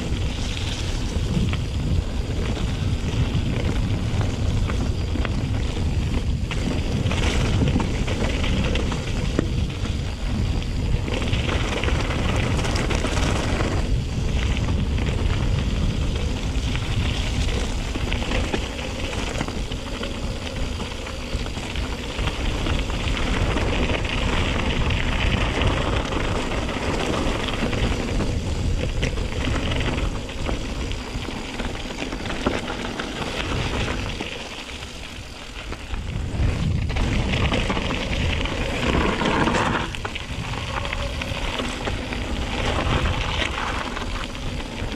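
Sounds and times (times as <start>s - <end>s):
bike tyres and frame rattling: 0.0s - 44.9s
wind rumble on microphone: 0.0s - 44.9s.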